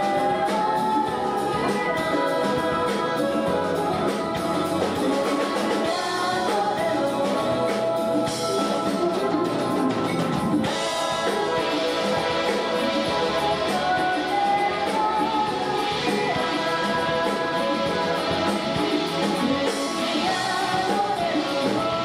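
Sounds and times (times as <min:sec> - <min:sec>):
woman singing: 0:00.0 - 0:09.4, 0:10.6 - 0:22.0
live band playing pop: 0:00.0 - 0:22.0.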